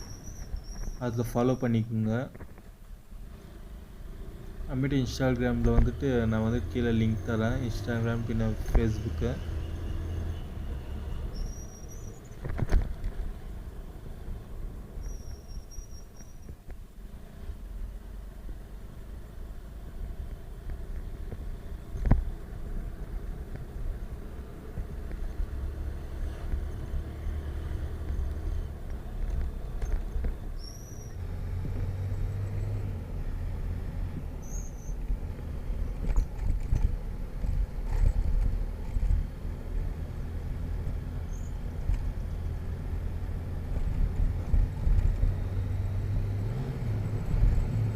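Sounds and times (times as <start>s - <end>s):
motorcycle engine and road rumble: 0.0s - 47.9s.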